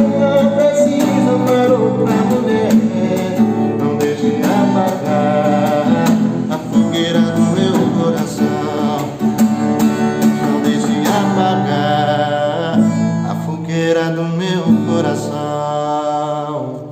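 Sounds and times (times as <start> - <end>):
acoustic guitar strumming: 0.0 - 16.9
man singing wordlessly: 0.0 - 16.9.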